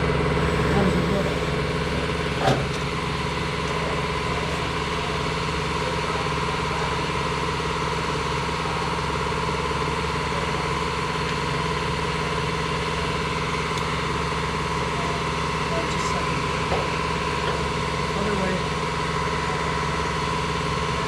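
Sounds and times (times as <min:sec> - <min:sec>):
machine droning: 0:00.0 - 0:21.0.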